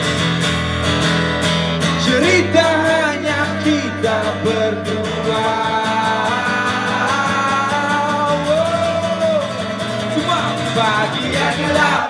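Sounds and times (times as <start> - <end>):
acoustic guitar strumming: 0.0 - 12.0
man singing long notes: 2.0 - 12.0.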